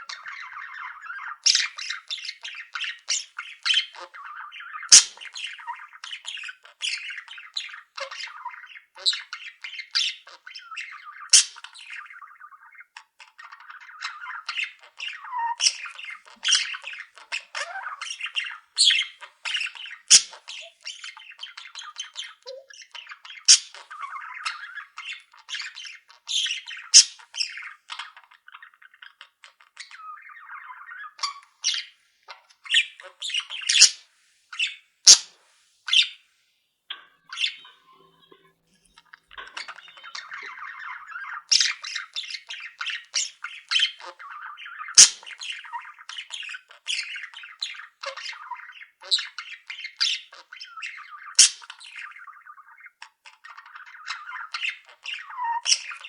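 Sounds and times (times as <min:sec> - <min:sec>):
budgerigars chattering: 0:00.0 - 0:34.0, 0:34.6 - 0:35.3, 0:35.9 - 0:36.2, 0:37.2 - 0:56.0
high squawks and chirps: 0:00.0 - 0:56.0.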